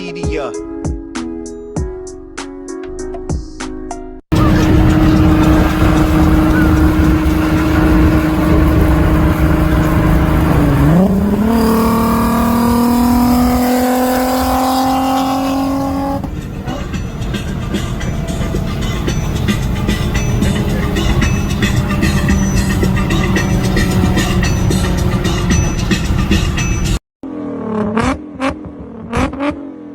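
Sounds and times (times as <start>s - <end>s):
car engine accelerating hard: 4.3s - 29.9s.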